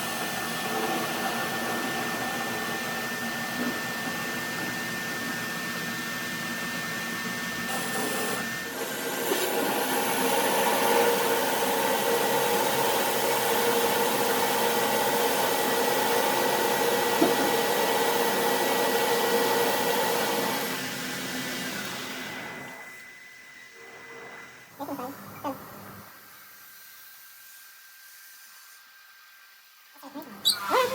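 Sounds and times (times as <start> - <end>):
workshop machine whining hum: 0.0 - 30.9.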